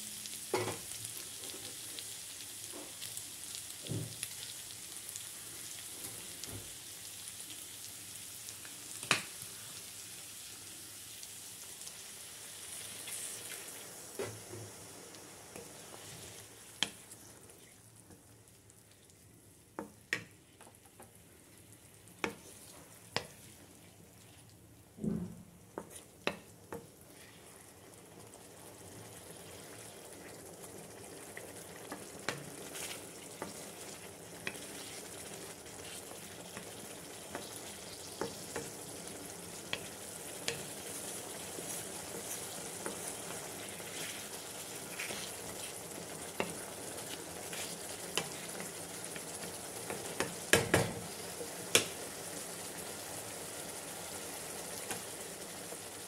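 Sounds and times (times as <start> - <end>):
curry sizzling in a pan: 0.0 - 25.0, 25.6 - 56.0.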